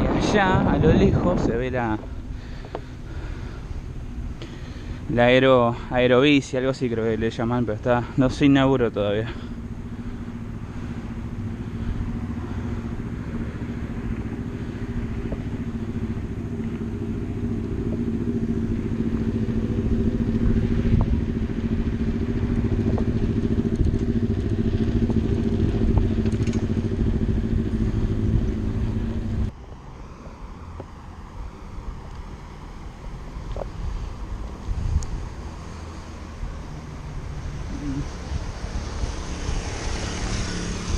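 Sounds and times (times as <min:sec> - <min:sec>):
traffic hum: 0:00.0 - 0:40.9.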